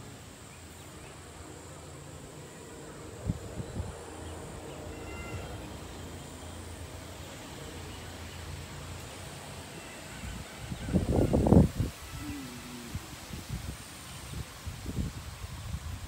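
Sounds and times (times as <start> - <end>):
high insect drone: 0.0 - 16.0
low rumble of wind: 0.0 - 16.0.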